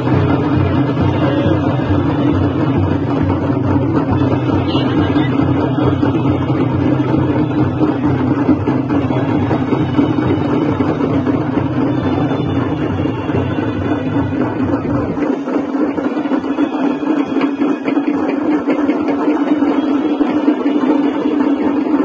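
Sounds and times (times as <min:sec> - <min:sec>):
barrel drums rumbling: 0:00.0 - 0:22.0.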